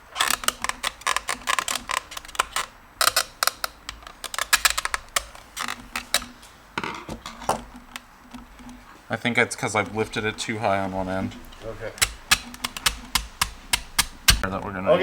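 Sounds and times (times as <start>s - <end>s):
screwdrivers clicking on plastic: 0.0s - 9.0s, 9.6s - 14.7s.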